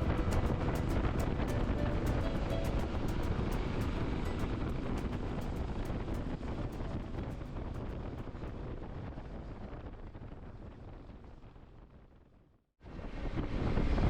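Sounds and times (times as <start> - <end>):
motorcycle low rumble: 0.0 - 14.0
wind buffeting microphone: 0.0 - 14.0.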